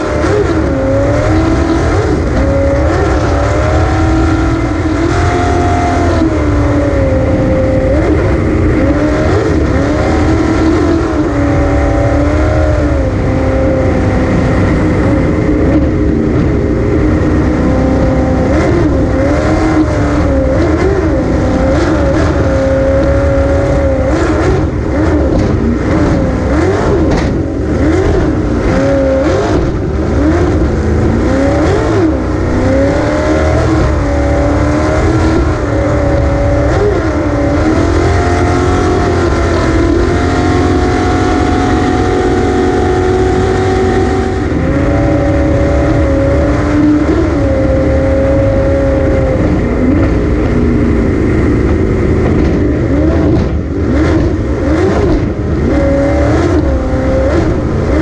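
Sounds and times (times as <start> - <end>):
jet boat engine running hard: 0.0 - 58.0
rush of wind and water: 0.0 - 58.0.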